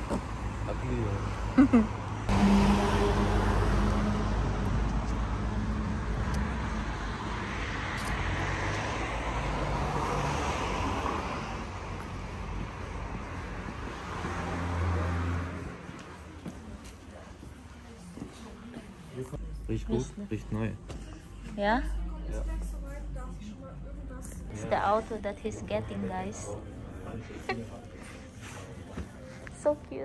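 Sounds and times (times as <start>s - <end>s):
road noise: 0.0s - 30.0s
vehicle engine hum: 0.0s - 30.0s.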